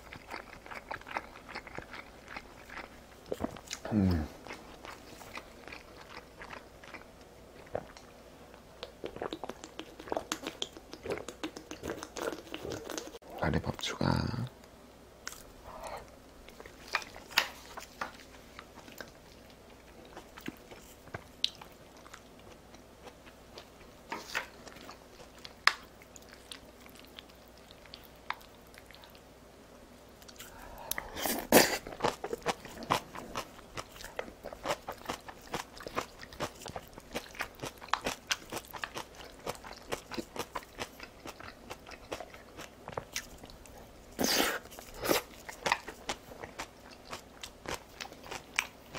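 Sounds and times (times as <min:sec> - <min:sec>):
chewing and crunching: 0:00.0 - 0:13.2, 0:15.3 - 0:29.3, 0:30.2 - 0:48.9.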